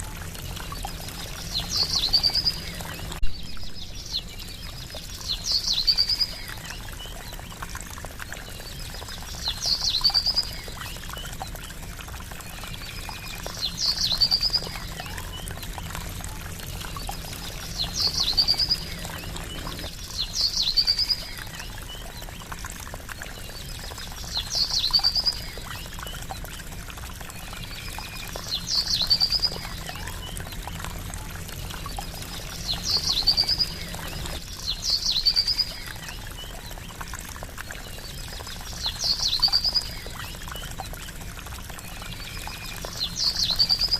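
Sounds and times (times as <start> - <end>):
water trickling: 0.0 - 43.9.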